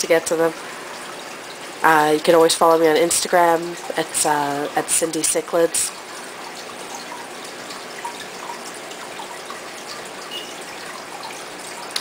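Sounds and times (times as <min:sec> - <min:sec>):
aquarium water trickling: 0:00.0 - 0:12.0
water drips: 0:00.0 - 0:12.0.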